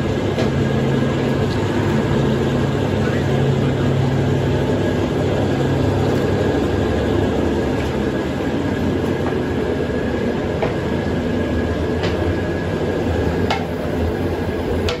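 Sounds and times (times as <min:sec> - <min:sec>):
machinery rumbling: 0:00.0 - 0:15.0.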